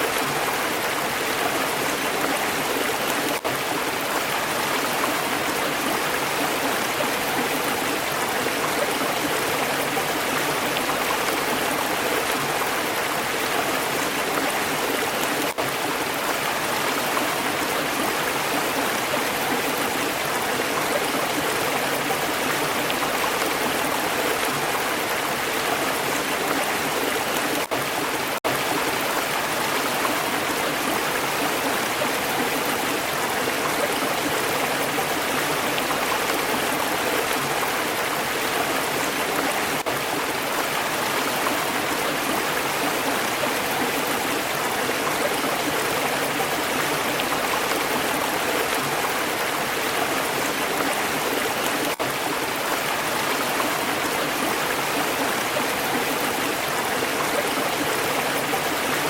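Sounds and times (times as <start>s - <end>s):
stream water flowing over stones: 0.0s - 59.0s.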